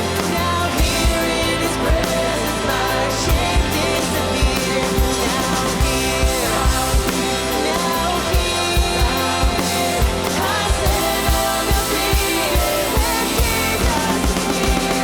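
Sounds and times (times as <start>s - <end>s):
worship band music: 0.0s - 15.0s.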